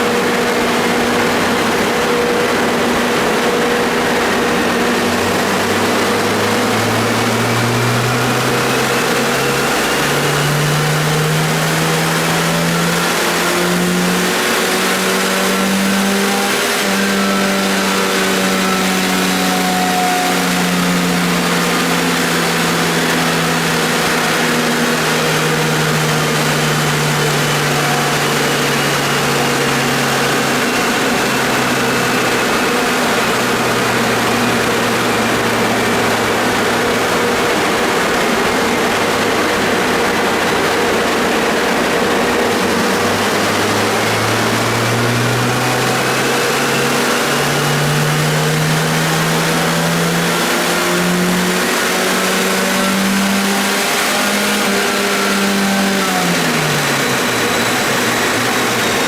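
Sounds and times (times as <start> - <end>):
car engine running: 0.0 - 59.0
dyno rollers spinning: 0.0 - 59.0.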